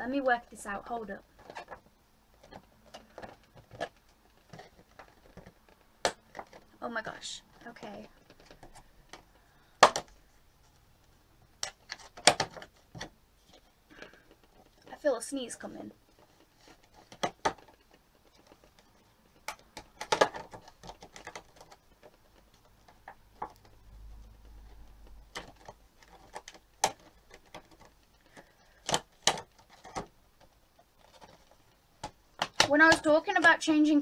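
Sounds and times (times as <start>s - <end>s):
packaging clicking and crackling: 1.2s - 6.8s, 7.5s - 10.3s, 11.5s - 15.0s, 16.0s - 33.5s.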